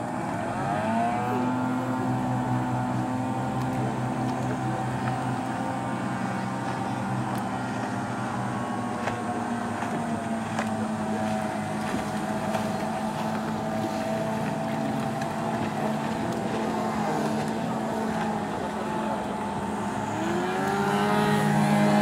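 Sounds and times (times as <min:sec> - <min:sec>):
outboard motors running: 0:00.0 - 0:22.0.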